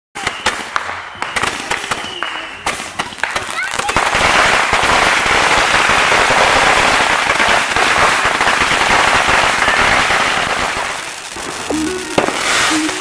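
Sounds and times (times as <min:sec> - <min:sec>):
firecrackers popping: 0:00.2 - 0:13.0.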